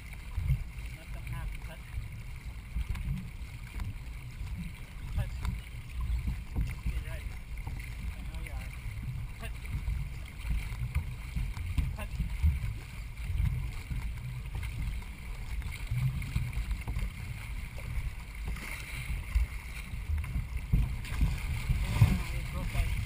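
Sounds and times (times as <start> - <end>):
water noise: 0.0 - 23.0
wind buffeting microphone: 2.0 - 23.0.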